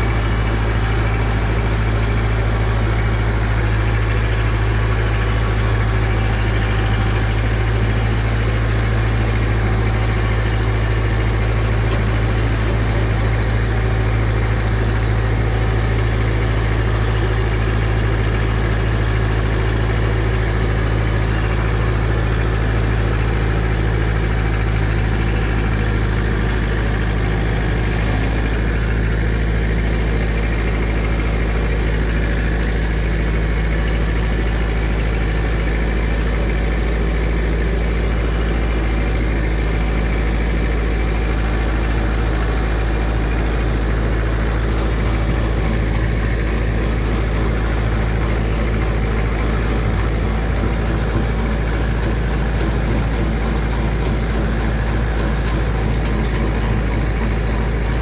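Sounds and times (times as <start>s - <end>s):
diesel tractor engine drone: 0.0s - 58.0s
rotor churning through compost: 0.0s - 58.0s.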